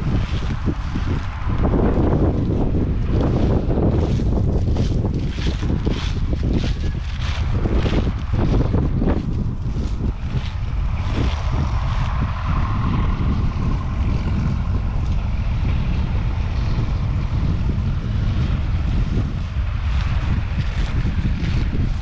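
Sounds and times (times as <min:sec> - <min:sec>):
diesel tractor engine running: 0:00.0 - 0:22.0
wind buffeting microphone: 0:00.0 - 0:22.0.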